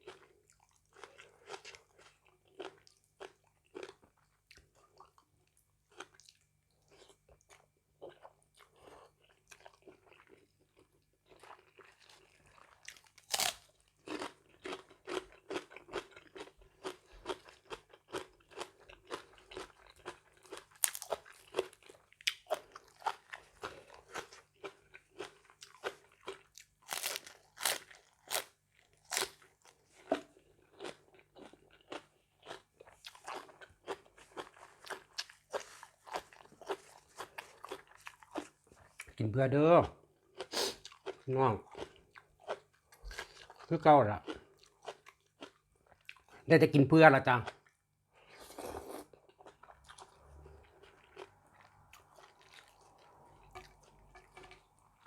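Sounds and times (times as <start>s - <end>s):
chewing and crunching food: 0.0s - 46.5s, 47.2s - 55.0s.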